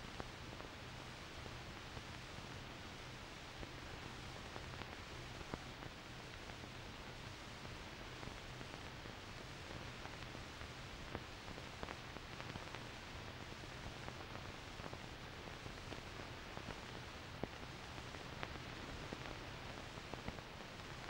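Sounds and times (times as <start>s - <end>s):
faint steady hiss: 0.0s - 21.0s
low mains hum: 0.0s - 21.0s.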